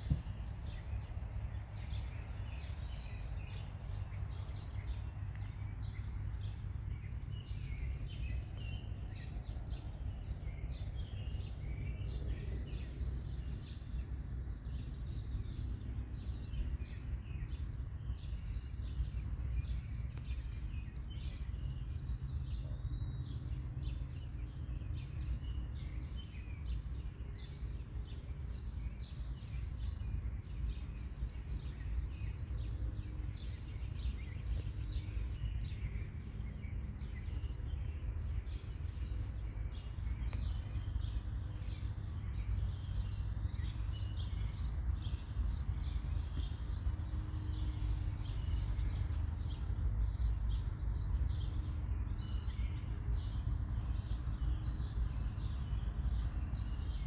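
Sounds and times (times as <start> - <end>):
small birds chirping: 0.0 - 57.0
steady low rumble: 0.0 - 57.0.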